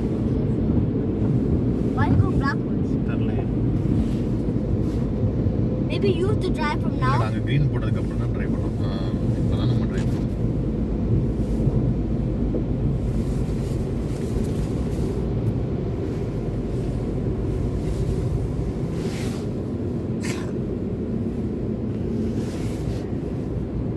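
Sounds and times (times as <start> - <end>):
car rumble from inside cabin: 0.0 - 23.9.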